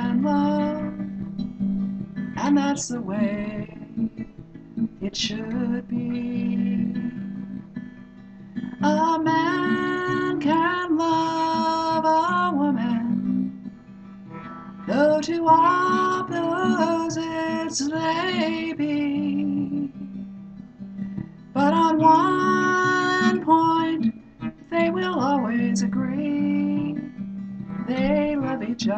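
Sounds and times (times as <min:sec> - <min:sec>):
woman singing: 0:00.0 - 0:01.3, 0:02.3 - 0:08.0, 0:08.6 - 0:13.6, 0:14.9 - 0:20.1, 0:21.6 - 0:27.2, 0:27.8 - 0:28.9
strummed acoustic guitar: 0:00.0 - 0:28.9.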